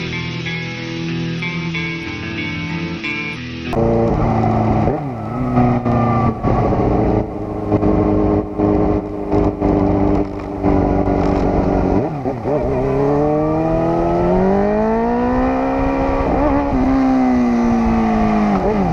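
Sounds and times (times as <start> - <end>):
motorcycle engine at high revs: 3.7 - 18.9.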